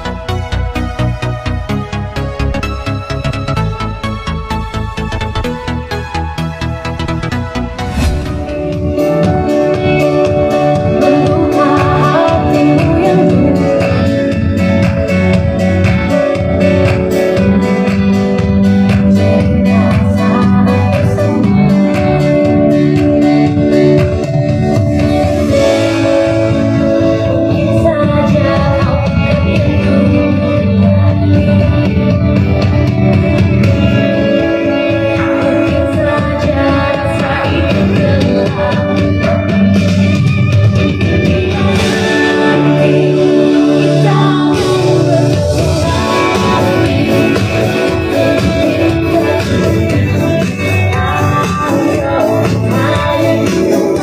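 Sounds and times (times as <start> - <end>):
guitar music over a steady beat: 0.0 - 54.0.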